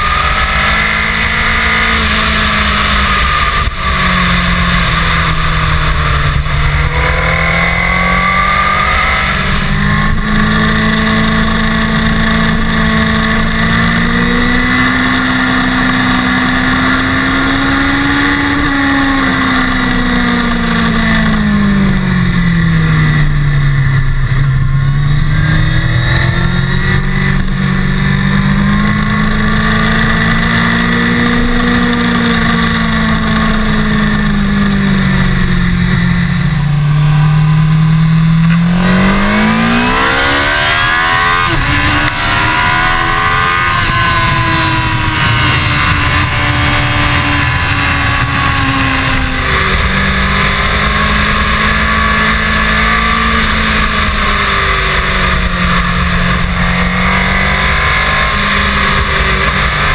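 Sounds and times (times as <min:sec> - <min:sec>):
motorcycle engine revving: 0:00.0 - 0:59.9
wind rushing over microphone: 0:00.0 - 0:59.9.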